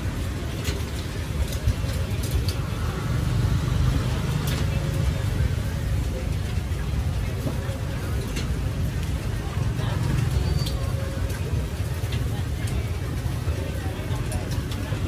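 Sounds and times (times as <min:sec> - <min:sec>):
traffic engines rumbling: 0:00.0 - 0:15.0.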